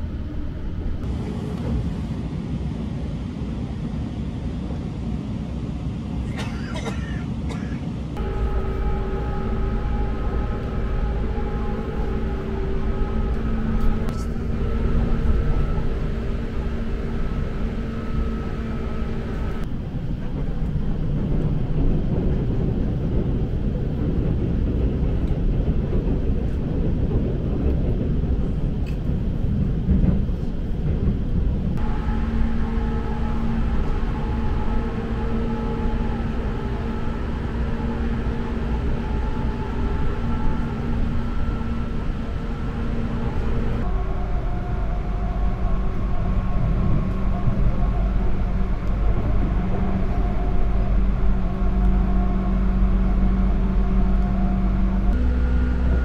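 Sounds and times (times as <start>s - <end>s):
train wheels rumbling on track: 6.2s - 56.0s
steady hum: 8.2s - 56.0s.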